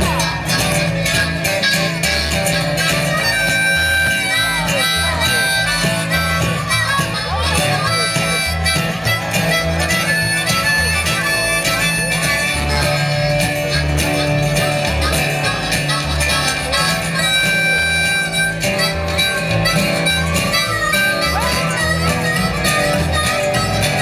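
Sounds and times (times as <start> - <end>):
harmonica wailing: 0.0 - 24.0
pulsing bass line: 0.0 - 24.0
string band playing: 0.0 - 24.0
strummed guitar: 0.0 - 24.0.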